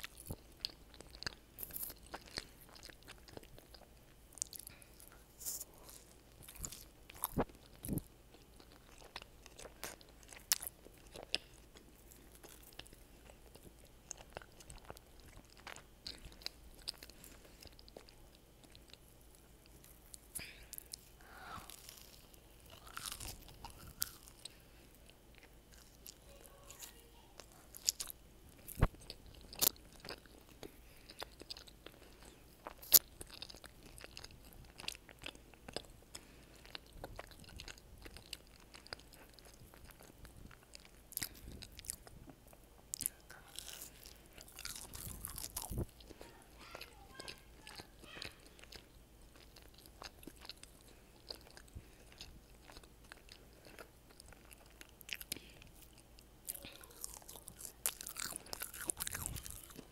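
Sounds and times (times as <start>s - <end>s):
crunching breaded coating: 0.0s - 59.9s
soft wet chewing: 0.0s - 59.9s.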